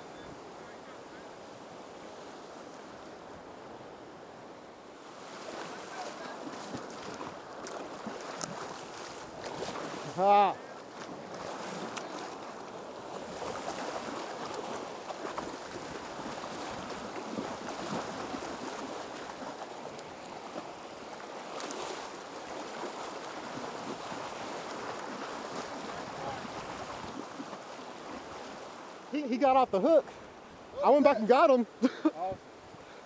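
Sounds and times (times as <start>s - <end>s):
surf washing and breaking: 0.0s - 33.0s.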